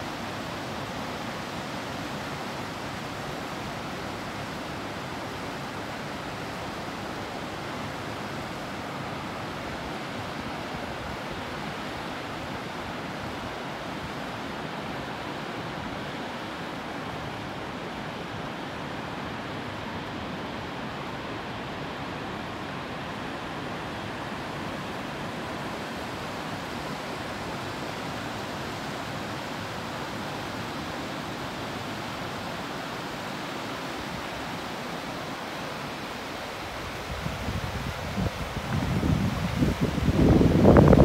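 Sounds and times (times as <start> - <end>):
waterfall and rapids rushing: 0.0 - 41.0.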